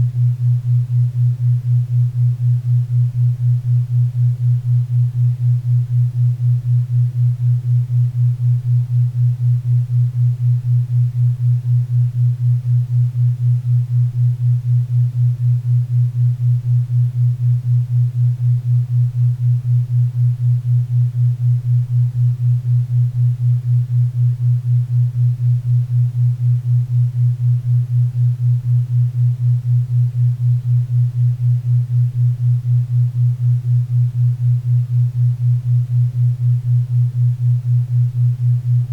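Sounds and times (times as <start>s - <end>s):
low pulsing pure tone: 0.0s - 38.9s.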